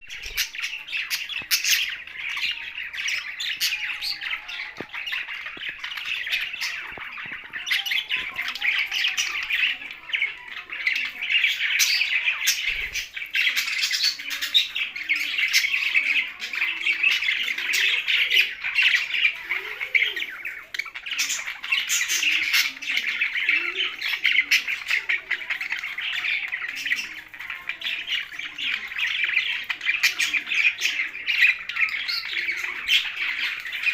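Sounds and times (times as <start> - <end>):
parrots chattering and squawking: 0.0 - 33.9.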